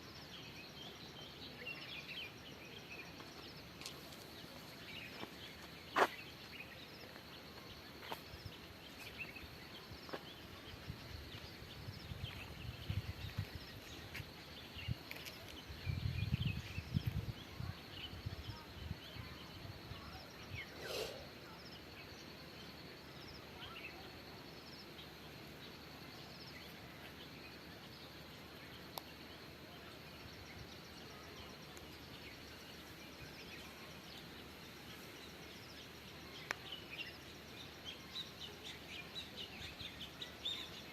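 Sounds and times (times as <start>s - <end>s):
insects trilling: 1.6s - 17.2s, 19.0s - 40.9s.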